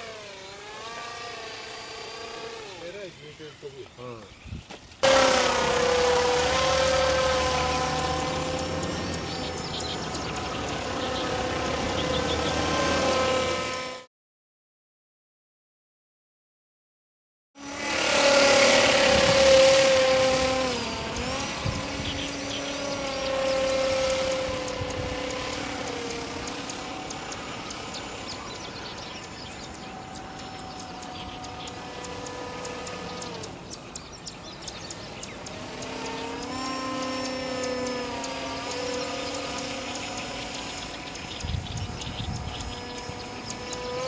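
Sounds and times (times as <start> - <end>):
model aircraft motor whine: 0.0 - 14.1, 17.6 - 44.0.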